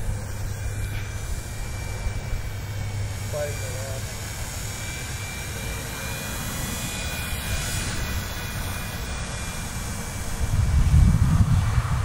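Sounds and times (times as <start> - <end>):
rc helicopter rotor whine: 0.0 - 12.0
wind rumbling on microphone: 0.0 - 12.0.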